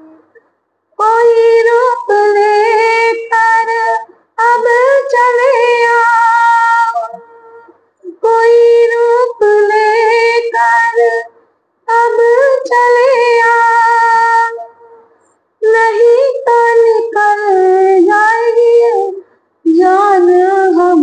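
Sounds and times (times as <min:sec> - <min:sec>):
woman singing unaccompanied: 0:01.0 - 0:11.3, 0:11.9 - 0:15.0, 0:15.6 - 0:21.0.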